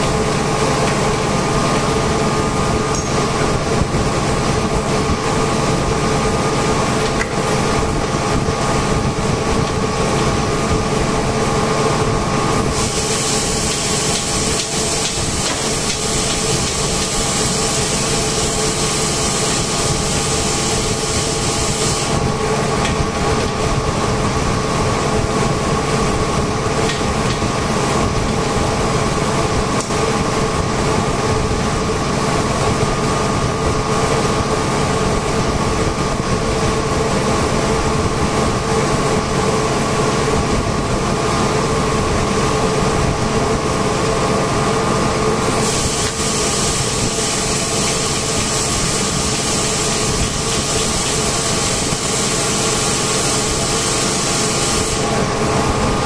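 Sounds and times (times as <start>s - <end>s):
air compressors droning: 0.0s - 56.0s.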